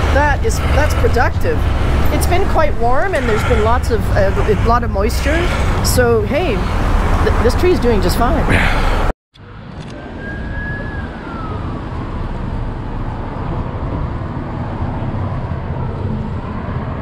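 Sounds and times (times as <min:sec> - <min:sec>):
passing road traffic rumble: 0:00.0 - 0:17.0.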